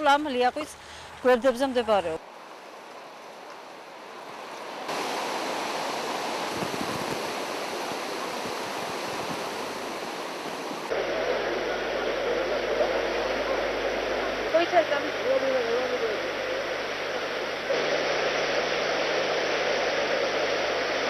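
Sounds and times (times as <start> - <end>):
river water rushing: 2.2 - 21.0.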